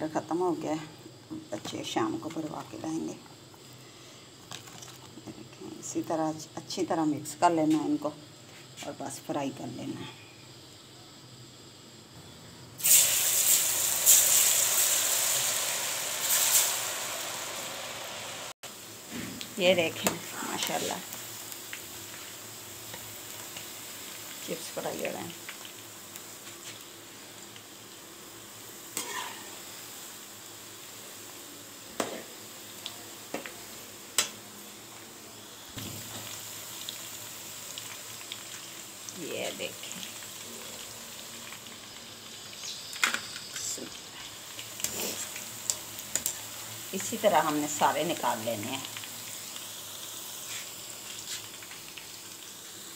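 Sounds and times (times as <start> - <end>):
chips sizzling in hot oil: 0.0 - 9.2, 12.8 - 52.9.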